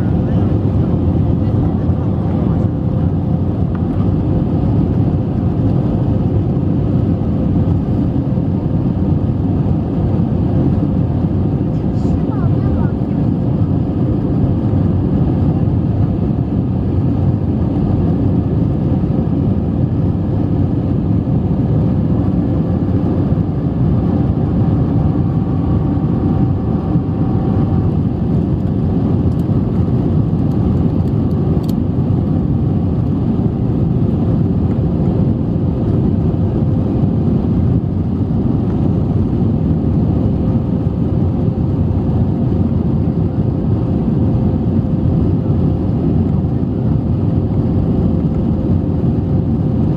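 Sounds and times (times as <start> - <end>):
jet engine and airflow noise: 0.0 - 49.9.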